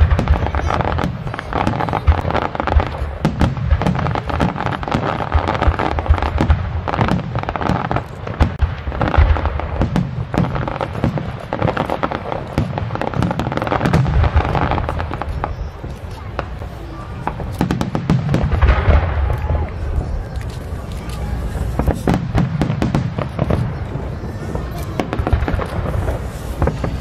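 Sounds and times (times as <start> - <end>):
firework cracks: 0.0 - 27.0
firework thuds: 0.0 - 27.0.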